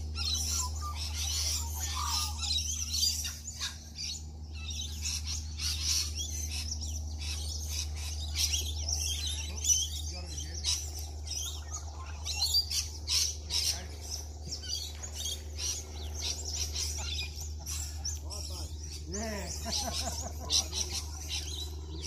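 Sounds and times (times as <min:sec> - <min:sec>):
birds chirping: 0:00.0 - 0:22.0
steady low rumble: 0:00.0 - 0:22.0.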